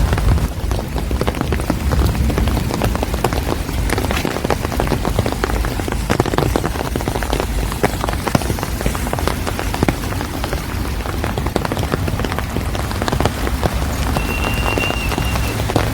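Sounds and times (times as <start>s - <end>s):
rain falling on a street: 0.0s - 15.9s.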